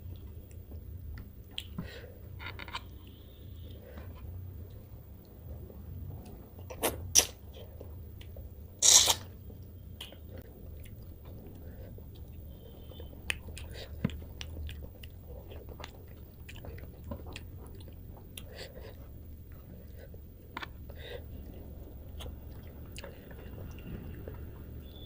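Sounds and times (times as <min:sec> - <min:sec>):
person chewing with wet clicks: 0:00.0 - 0:01.8, 0:04.6 - 0:25.0.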